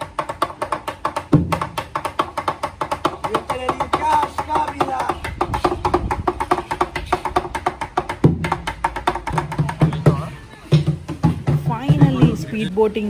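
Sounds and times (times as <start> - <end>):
rhythmic percussion music: 0.0 - 13.0.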